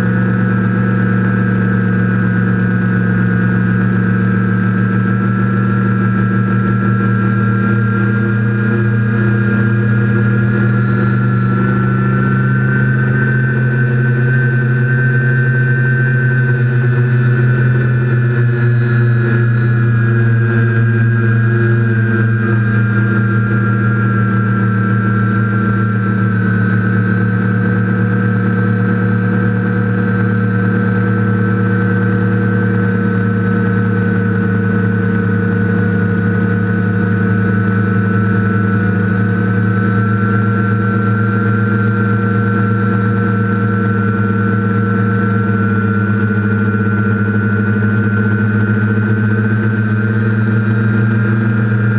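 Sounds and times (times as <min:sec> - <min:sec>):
drone motors and propellers buzzing: 0:00.0 - 0:51.9.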